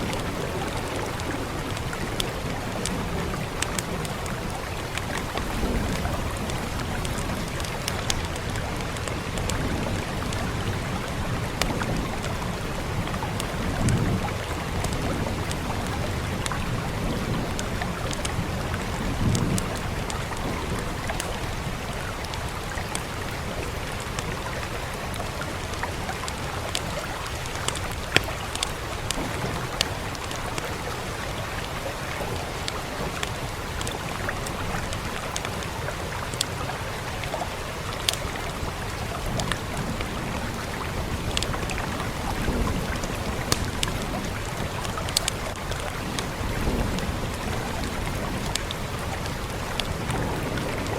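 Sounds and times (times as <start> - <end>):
rain hissing: 0.0 - 50.9.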